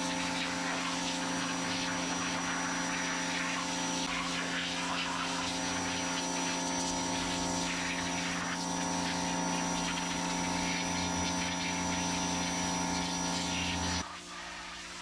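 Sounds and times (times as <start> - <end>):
steady hum of fixed tones: 0.0 - 15.0.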